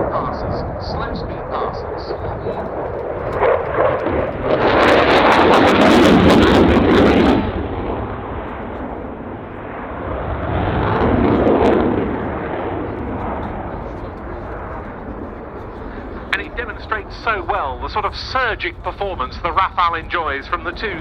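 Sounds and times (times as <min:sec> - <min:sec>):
fighter jet roaring with crackle: 0:00.0 - 0:21.0.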